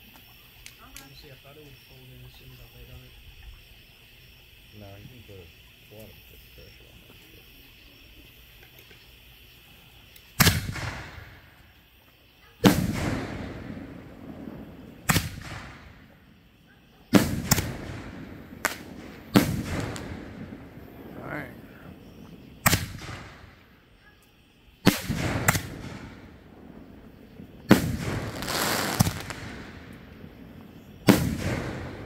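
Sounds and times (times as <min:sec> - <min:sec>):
fireworks launching and bursting: 0:05.5 - 0:32.0.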